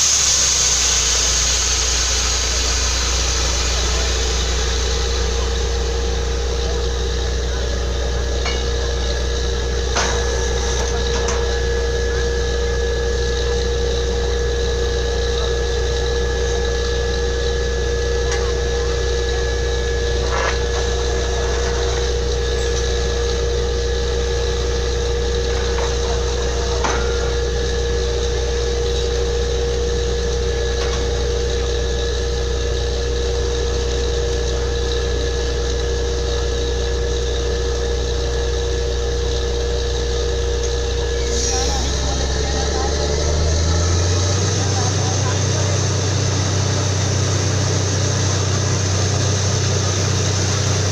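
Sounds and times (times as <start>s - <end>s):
drilling rig engine droning: 0.0s - 50.9s.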